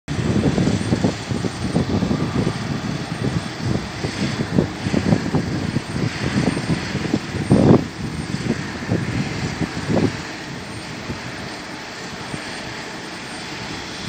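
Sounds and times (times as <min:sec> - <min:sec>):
diesel locomotive engine drone: 0:00.1 - 0:14.0
wind buffeting microphone: 0:00.1 - 0:14.0.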